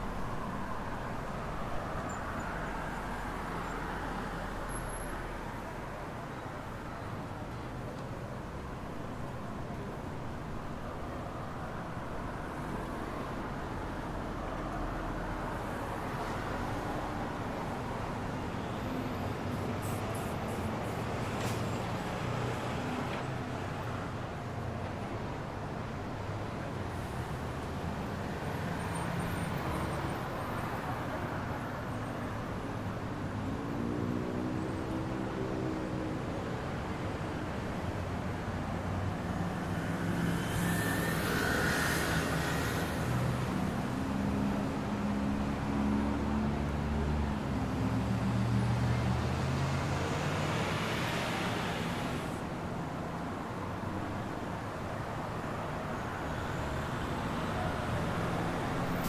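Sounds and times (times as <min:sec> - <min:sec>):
passing cars: 0:00.0 - 0:59.0.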